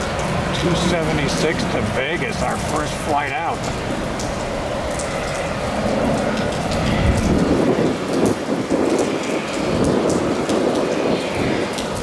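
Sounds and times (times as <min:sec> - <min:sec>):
heavy rain on hard surface: 0:00.0 - 0:12.0.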